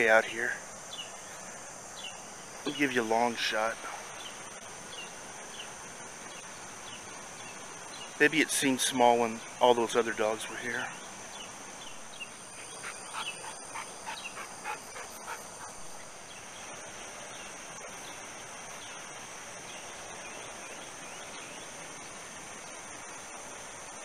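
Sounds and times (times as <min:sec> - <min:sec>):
high drone of insects: 0:00.0 - 0:24.0.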